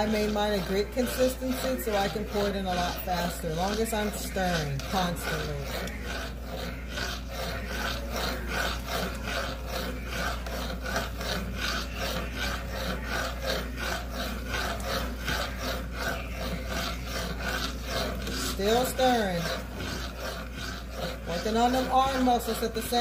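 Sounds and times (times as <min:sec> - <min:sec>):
spoon scraping metal pot: 0:00.0 - 0:23.0.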